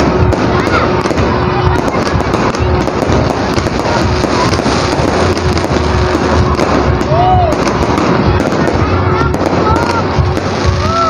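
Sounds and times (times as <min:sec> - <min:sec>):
firework shells bursting: 0:00.0 - 0:11.0
fireworks crackling and popping: 0:00.0 - 0:11.0.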